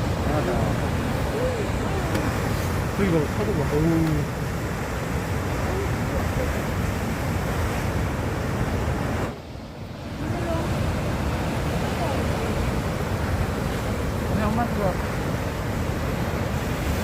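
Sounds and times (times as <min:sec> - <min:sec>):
sea waves on rocky shore: 0:00.0 - 0:17.0.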